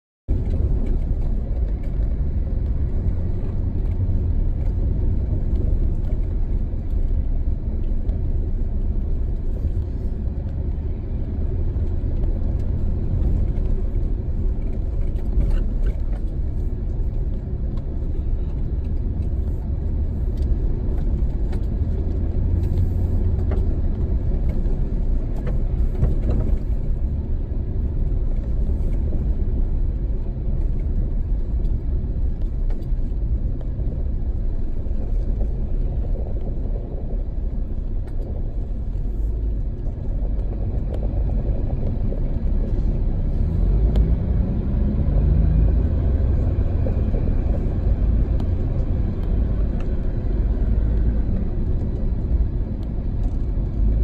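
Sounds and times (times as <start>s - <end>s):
vehicle driving through snow: 0.3s - 54.0s.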